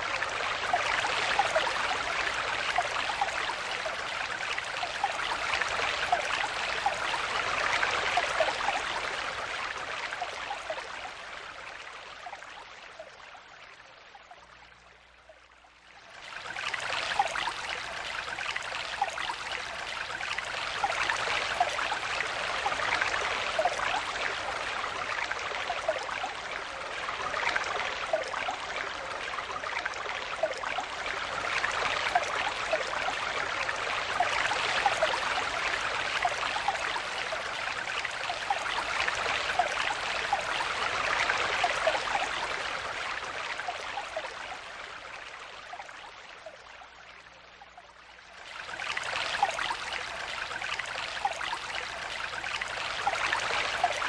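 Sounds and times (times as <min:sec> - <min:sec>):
stream water babbling: 0:00.0 - 0:54.0.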